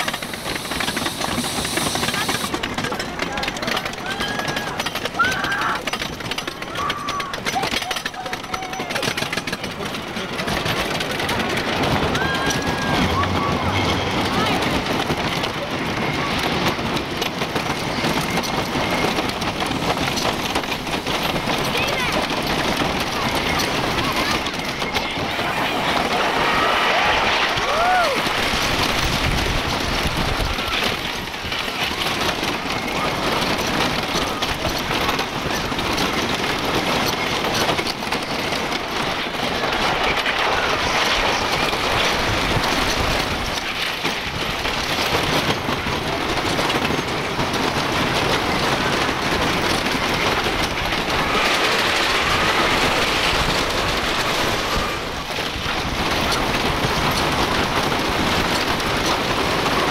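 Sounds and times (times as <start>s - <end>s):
roller coaster rattling on track: 0.0s - 59.9s.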